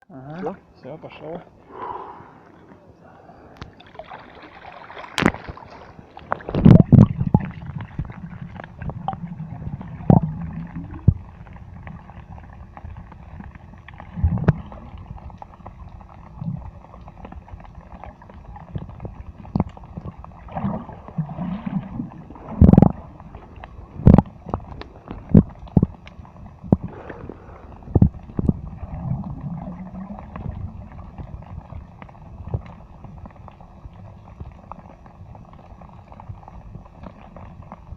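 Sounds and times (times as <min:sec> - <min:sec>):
muffled water gurgling and sloshing: 0:00.0 - 0:37.9.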